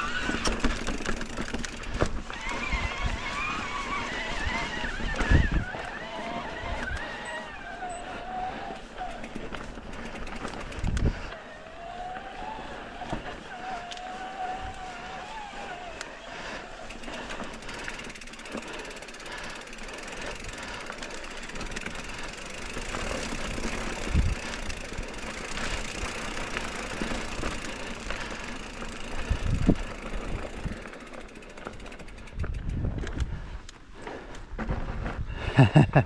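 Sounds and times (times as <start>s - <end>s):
bike rattling and clicking: 0.0s - 36.0s
bike tyre noise on trail: 0.0s - 36.0s.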